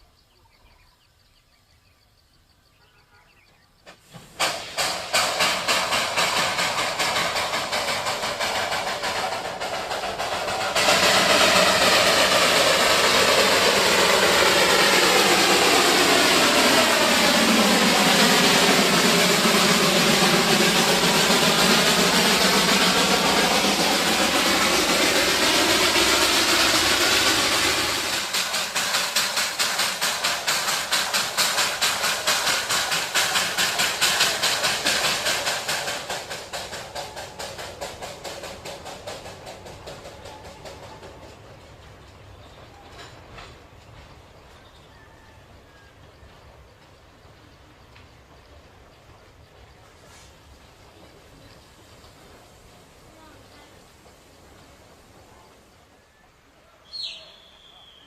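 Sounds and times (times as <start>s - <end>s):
steam locomotive chuffing: 3.8s - 58.0s
toy train engine rumble: 3.9s - 58.0s.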